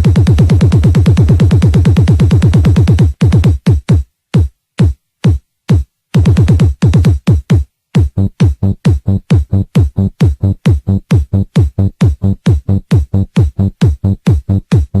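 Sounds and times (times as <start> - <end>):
deep drum-machine kicks: 0.0 - 15.0
electronic dance music: 0.0 - 15.0.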